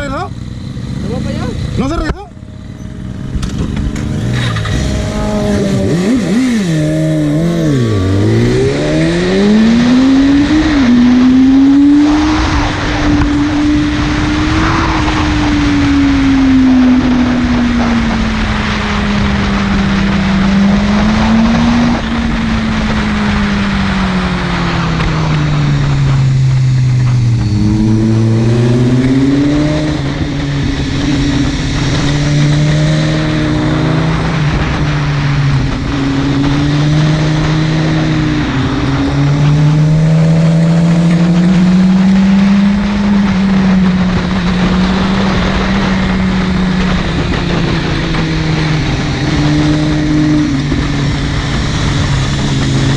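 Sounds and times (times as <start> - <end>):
motorcycle engine revving: 0.0 - 52.9
wind noise rushing: 3.0 - 52.9.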